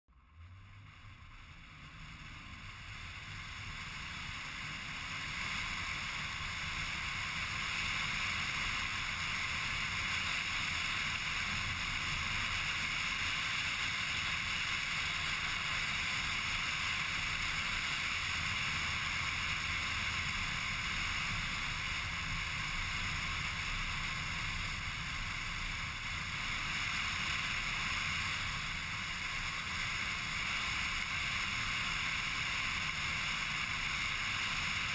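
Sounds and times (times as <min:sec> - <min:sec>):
car engine running: 0:00.1 - 0:34.9
car road and wind noise: 0:00.1 - 0:34.9.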